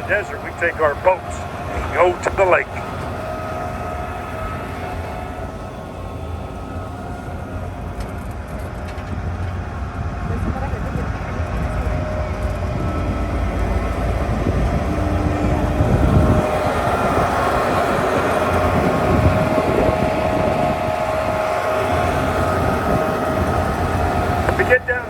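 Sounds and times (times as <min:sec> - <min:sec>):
steady high tone: 0:00.0 - 0:25.0
train wheels rumbling: 0:00.0 - 0:25.0.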